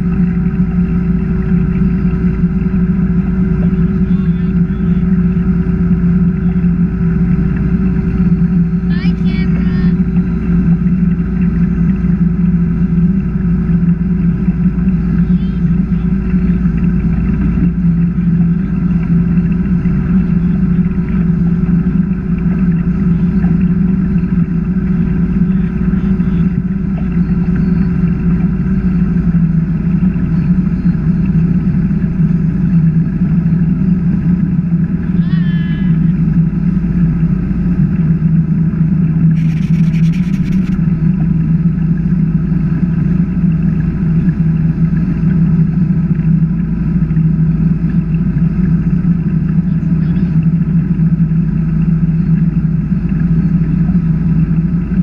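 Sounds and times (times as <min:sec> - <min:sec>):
boat engine droning: 0:00.0 - 0:55.0
rushing water: 0:00.0 - 0:55.0
wind: 0:00.0 - 0:55.0.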